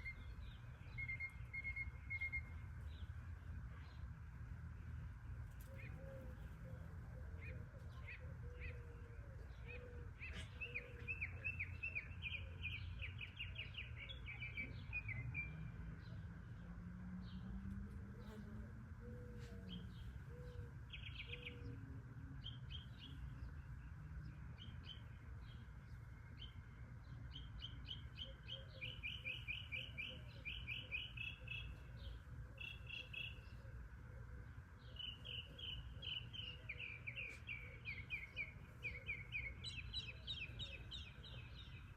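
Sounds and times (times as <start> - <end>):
bird chirping: 0.0 - 4.1, 4.8 - 16.6, 17.2 - 41.9.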